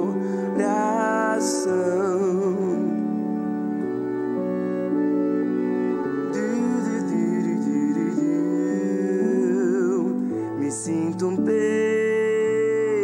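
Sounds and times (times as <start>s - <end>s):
instrumental music: 0.0s - 13.0s
person singing with vibrato: 0.0s - 13.0s.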